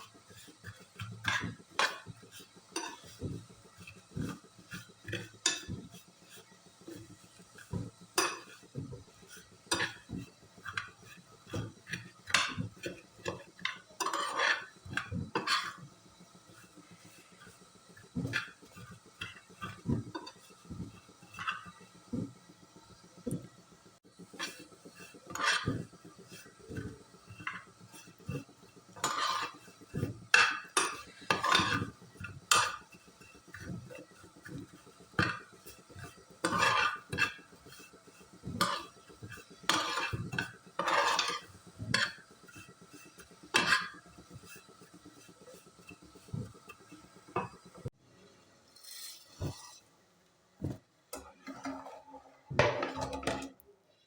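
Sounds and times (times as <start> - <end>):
metal spoon scraping a pot: 0.0 - 22.4, 24.2 - 47.9, 48.7 - 49.9, 50.6 - 53.6.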